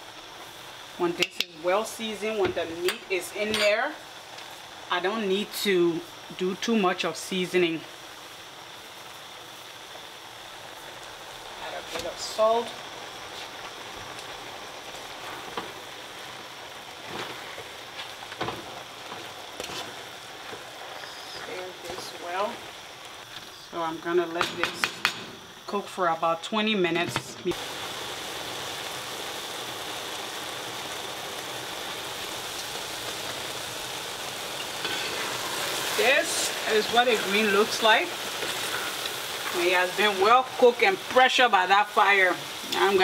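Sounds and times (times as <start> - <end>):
pot simmering and bubbling: 0.0 - 43.0.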